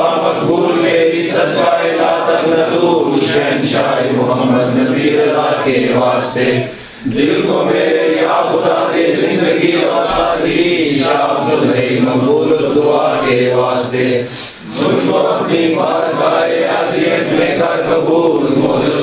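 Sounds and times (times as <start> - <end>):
men chanting a prayer: 0.0 - 19.0.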